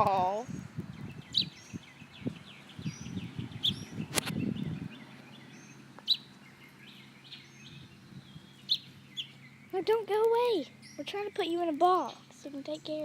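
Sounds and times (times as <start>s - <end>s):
high bird chirps: 0.5s - 13.0s.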